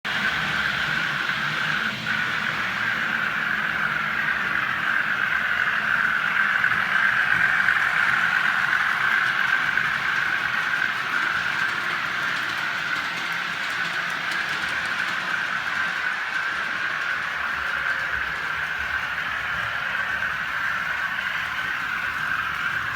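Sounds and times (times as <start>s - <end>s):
model train whirring: 0.1s - 22.9s.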